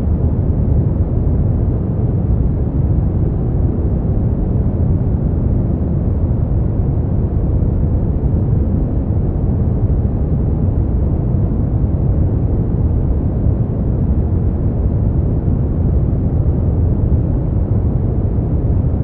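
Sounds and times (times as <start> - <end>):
deep rumbly generated noise: 0.0 - 19.0.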